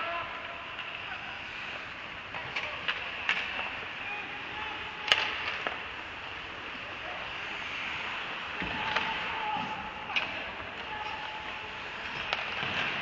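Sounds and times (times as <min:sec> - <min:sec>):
hockey sticks and puck clacking: 0:00.0 - 0:13.0
steady rink hiss: 0:00.0 - 0:13.0.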